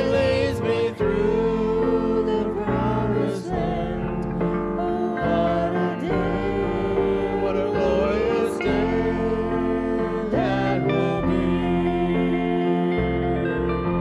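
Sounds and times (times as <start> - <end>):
gospel band playing: 0.0 - 14.0
sliding lead melody: 0.0 - 14.0.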